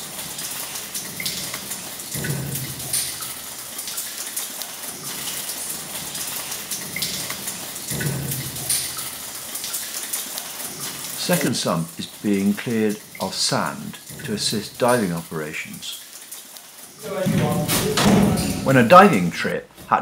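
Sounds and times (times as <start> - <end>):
cave water dripping and trickling: 0.0 - 20.0.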